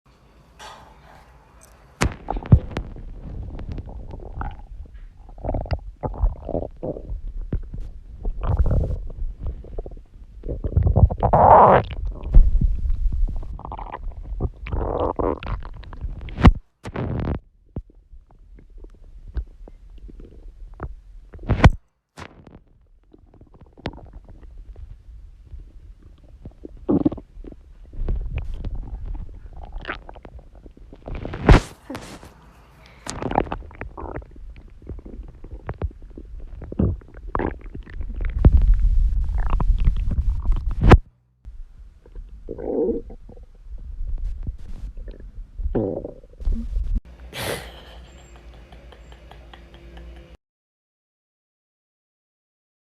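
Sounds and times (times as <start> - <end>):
stomach growling: 0.6 - 32.3, 33.0 - 47.0.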